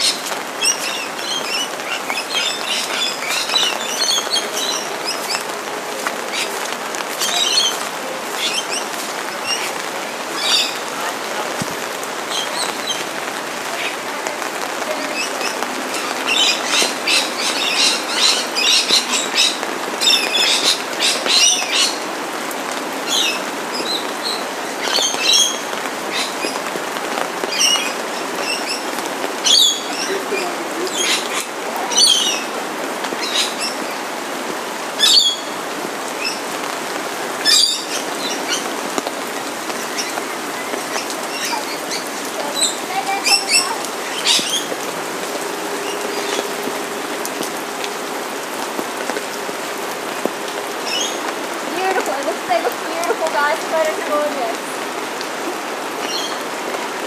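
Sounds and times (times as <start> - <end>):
birds chirping: 0.0 - 57.0
rain falling: 0.0 - 57.0.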